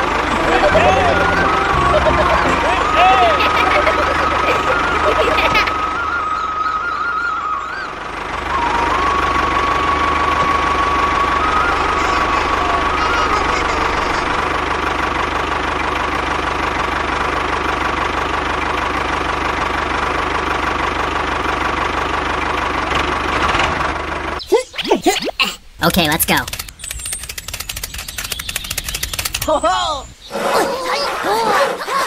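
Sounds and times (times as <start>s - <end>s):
tractor engine running: 0.0s - 24.4s, 25.8s - 29.8s.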